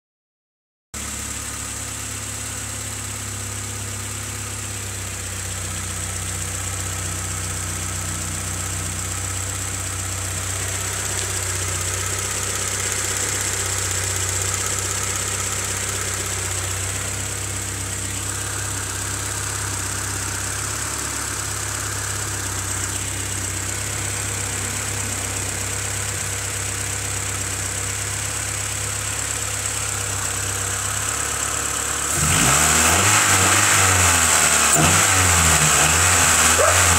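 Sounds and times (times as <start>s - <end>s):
car engine idling: 1.0s - 36.9s
engine knocking: 1.7s - 32.6s.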